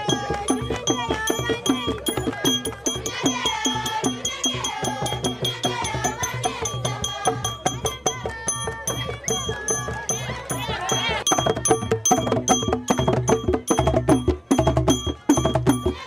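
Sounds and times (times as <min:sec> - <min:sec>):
fast drumbeat: 0:00.0 - 0:16.0
people singing: 0:00.0 - 0:16.0.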